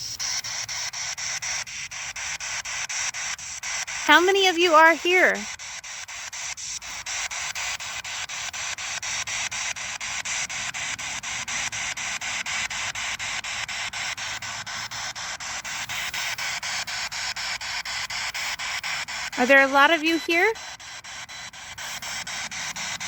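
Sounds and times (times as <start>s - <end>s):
radio static hiss: 0.0s - 23.0s
regular clicks: 0.8s - 23.0s.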